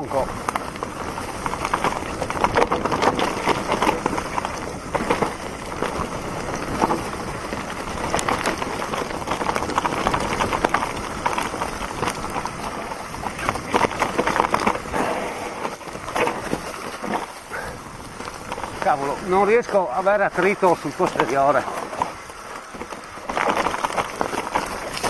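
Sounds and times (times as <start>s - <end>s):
bike rattling over bumps: 0.0s - 25.0s
tyres crunching over stones: 0.0s - 25.0s.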